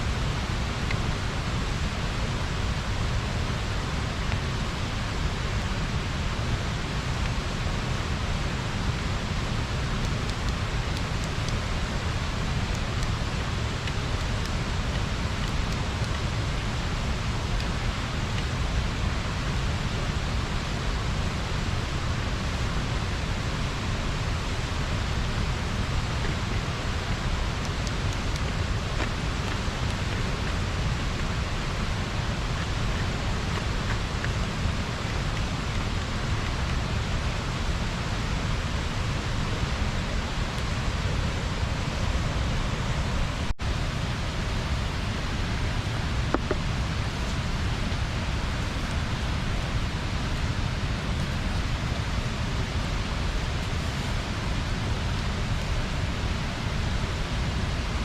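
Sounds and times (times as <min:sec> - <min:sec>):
water rushing over weir: 0:00.0 - 0:58.0.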